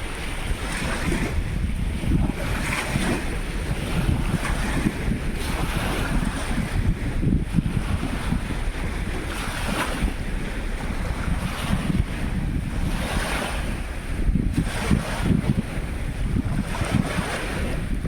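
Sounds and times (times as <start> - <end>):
sea surf washing onto beach: 0.0 - 18.0
wind buffeting the microphone: 0.0 - 18.0.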